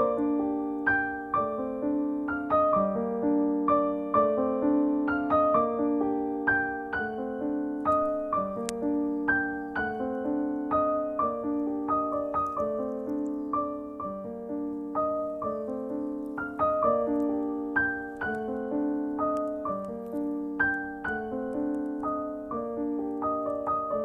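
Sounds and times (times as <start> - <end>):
gentle solo piano music: 0.0 - 24.0.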